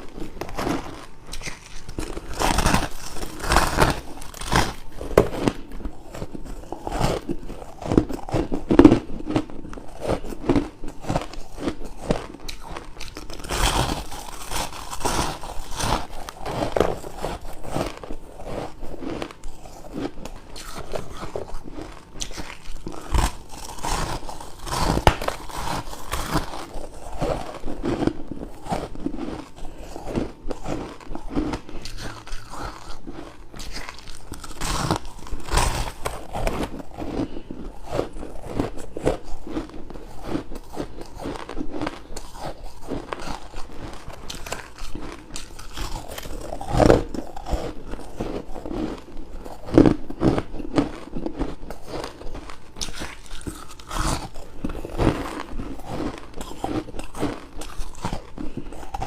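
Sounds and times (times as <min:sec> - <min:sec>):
ice crunching while bitten: 0:00.0 - 0:59.0.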